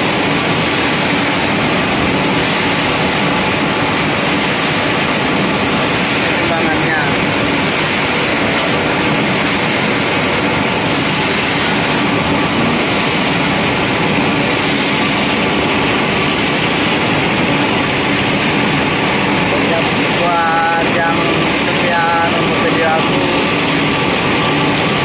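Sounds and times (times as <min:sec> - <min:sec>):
machinery running: 0:00.0 - 0:25.0.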